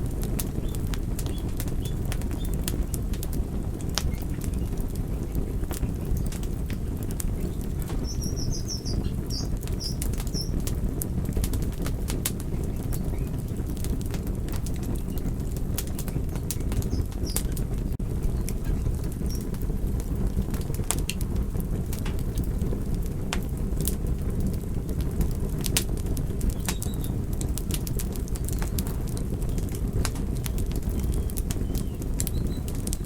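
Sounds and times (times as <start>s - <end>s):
campfire burning: 0.0s - 33.0s
fire crackling and popping: 0.0s - 33.0s.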